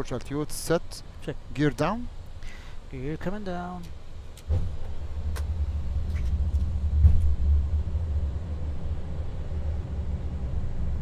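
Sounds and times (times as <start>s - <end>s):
low rumble of air buffeting: 0.0s - 11.0s.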